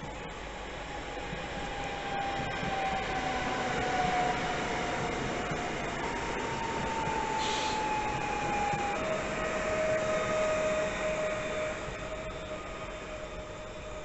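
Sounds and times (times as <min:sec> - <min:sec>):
electric train running past: 0:00.0 - 0:14.0.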